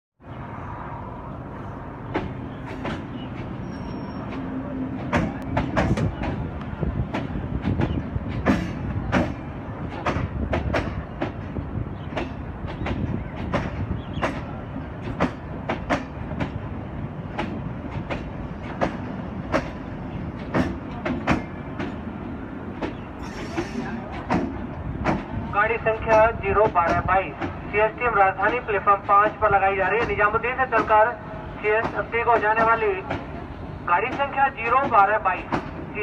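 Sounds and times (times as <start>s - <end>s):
train coaches rumbling: 0.2s - 36.0s.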